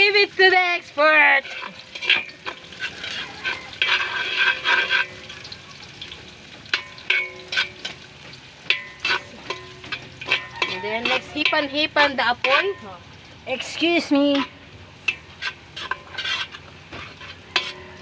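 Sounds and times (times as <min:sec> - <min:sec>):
garlic sizzling in hot oil: 0:00.0 - 0:18.0
wok ringing: 0:00.0 - 0:18.0
metal ladle scraping a wok: 0:00.1 - 0:18.0.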